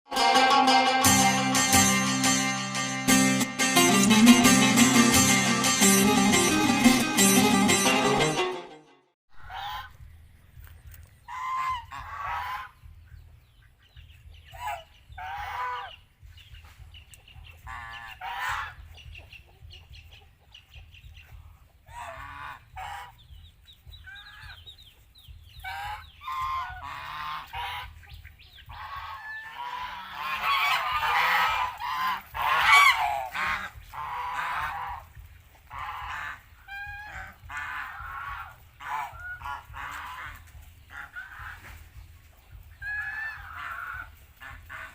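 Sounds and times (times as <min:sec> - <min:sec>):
geese honking: 0:00.1 - 0:08.6, 0:09.4 - 0:10.0, 0:11.2 - 0:16.2, 0:17.5 - 0:19.0, 0:21.3 - 0:24.7, 0:25.5 - 0:44.9.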